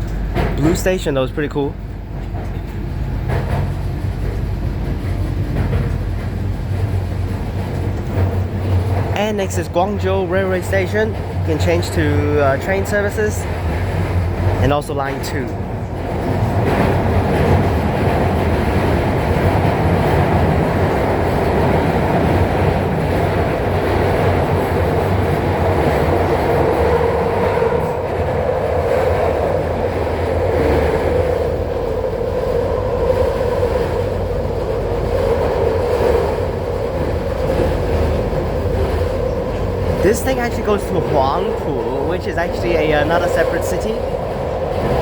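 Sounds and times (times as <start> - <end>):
train drone: 0.0 - 45.0
train wheels rumbling on rail: 0.0 - 45.0.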